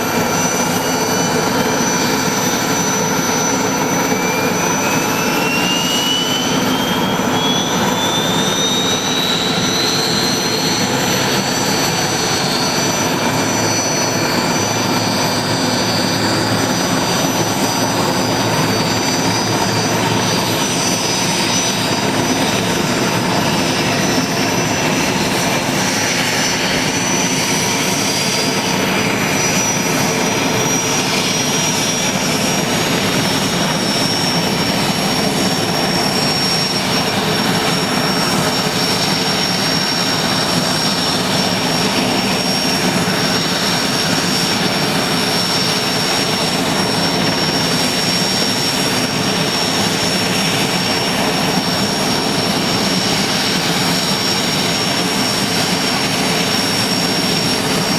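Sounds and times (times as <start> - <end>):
helicopter engines rushing: 0.0 - 57.9
high turbine whine: 0.0 - 57.9.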